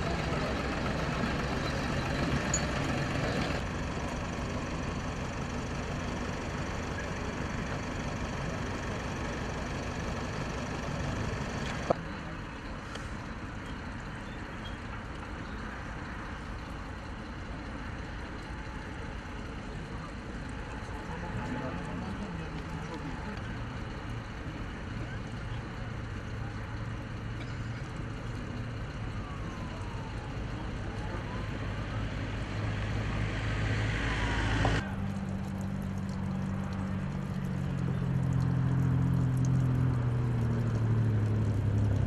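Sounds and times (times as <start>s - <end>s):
heavy vehicle engines running: 0.0s - 42.0s.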